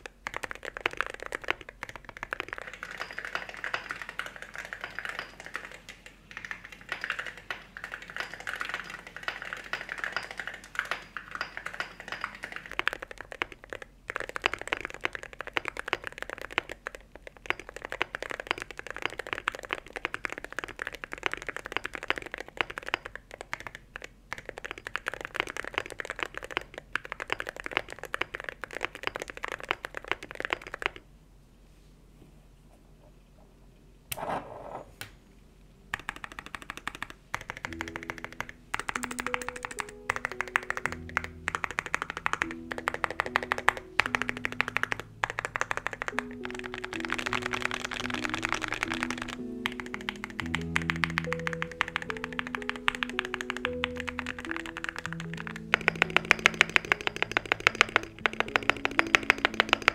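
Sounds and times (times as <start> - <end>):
mechanical keyboard typing: 0.0 - 31.0, 35.9 - 59.9.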